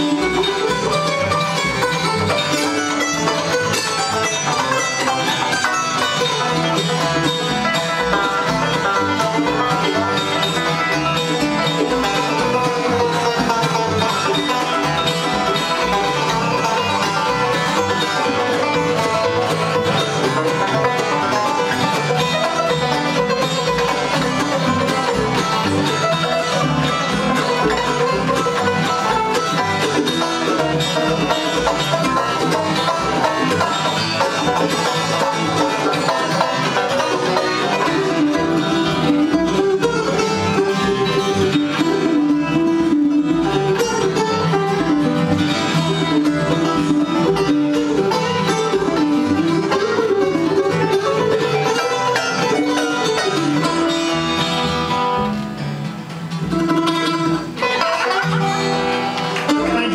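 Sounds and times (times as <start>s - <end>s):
banjo picking: 0.0s - 59.9s
bluegrass band playing: 0.0s - 59.9s
mandolin: 0.0s - 59.9s.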